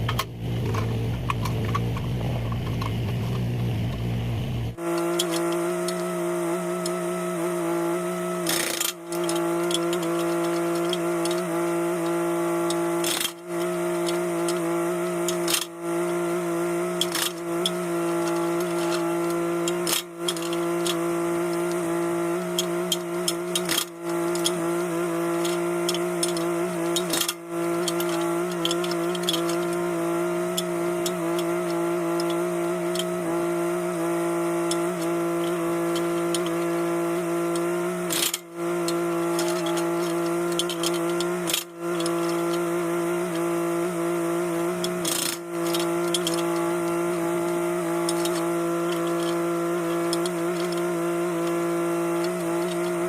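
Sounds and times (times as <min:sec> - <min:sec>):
excavator engine running: 0:00.0 - 0:53.0.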